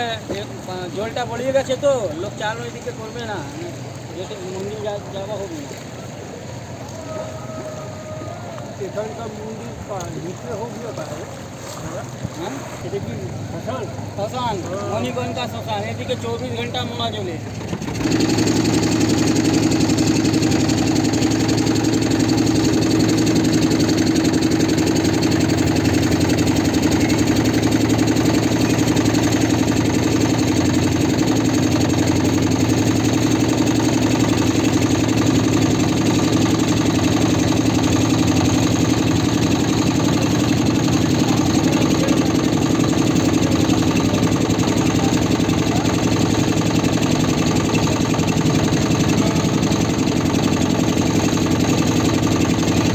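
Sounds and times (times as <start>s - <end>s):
motorboat engine running: 0.0s - 52.9s.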